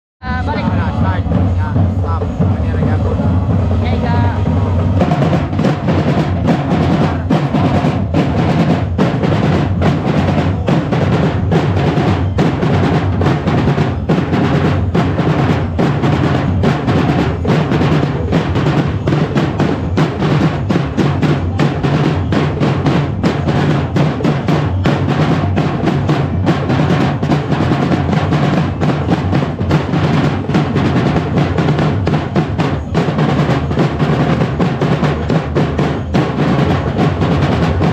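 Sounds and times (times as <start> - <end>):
bass drums: 0.2 - 37.9
percussion band drumming: 0.2 - 37.9
snare drum rolls: 0.6 - 37.9.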